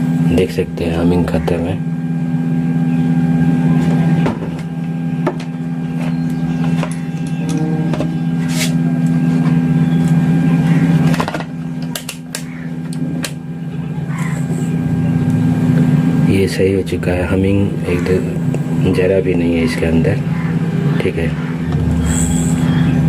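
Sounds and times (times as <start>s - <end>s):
low-pitched woofer hum: 0.0s - 23.0s.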